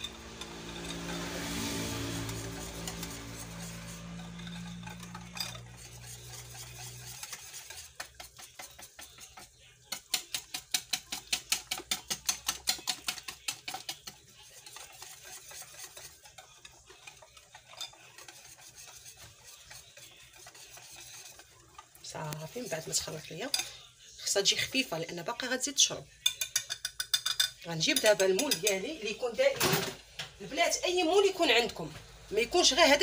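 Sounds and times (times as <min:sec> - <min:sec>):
utensil stirring batter in glass bowl: 0:00.0 - 0:29.5, 0:30.4 - 0:33.0.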